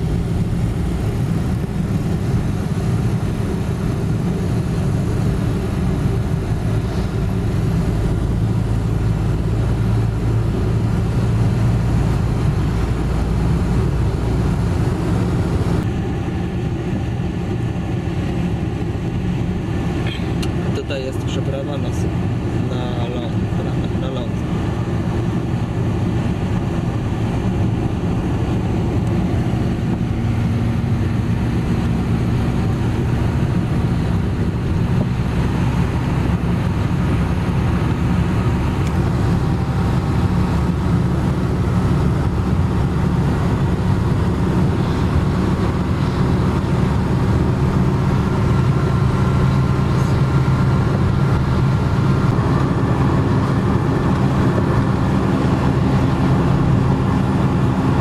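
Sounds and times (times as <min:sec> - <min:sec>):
car driving interior rumble: 0:00.0 - 0:58.0.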